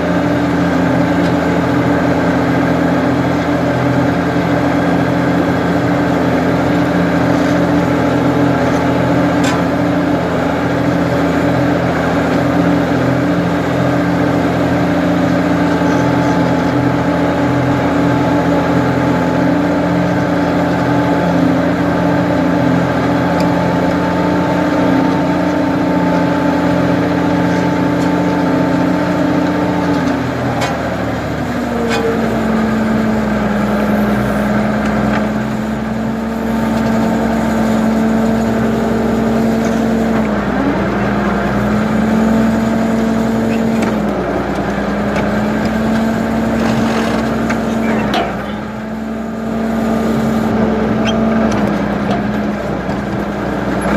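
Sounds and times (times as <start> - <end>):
backhoe engine running: 0.0 - 53.9.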